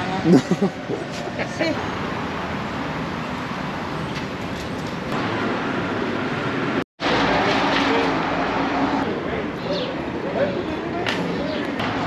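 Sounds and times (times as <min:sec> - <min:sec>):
passing cars on city street: 0:00.0 - 0:12.0.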